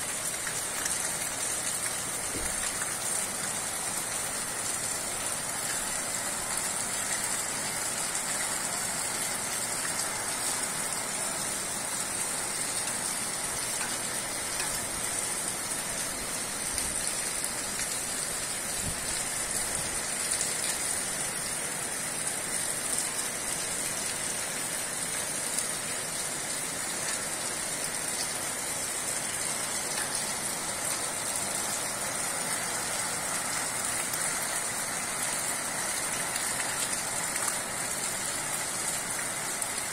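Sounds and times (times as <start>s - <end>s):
steady rain on street and rooftops: 0.0s - 39.9s.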